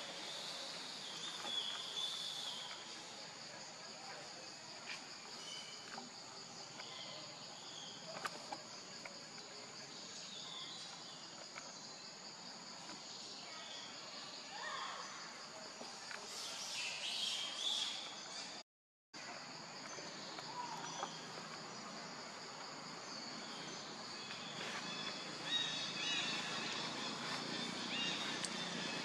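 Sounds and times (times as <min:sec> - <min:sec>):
insect chorus pulsing drone: 0:00.0 - 0:18.6, 0:19.2 - 0:29.0.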